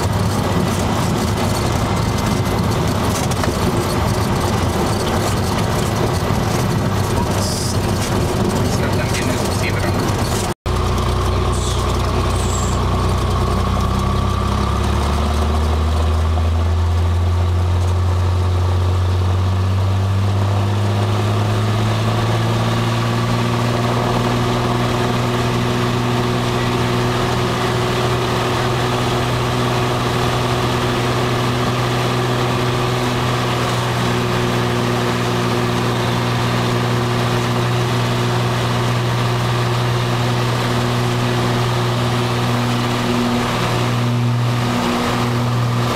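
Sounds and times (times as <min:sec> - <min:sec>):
propeller plane engine drone: 0:00.0 - 0:45.9.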